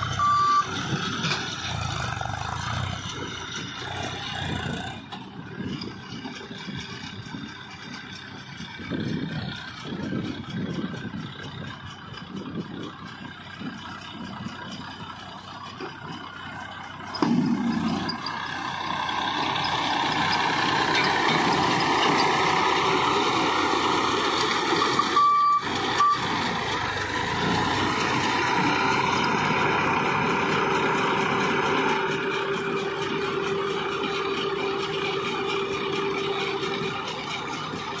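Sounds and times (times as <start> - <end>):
tractor engine running under load: 0.0 - 38.0.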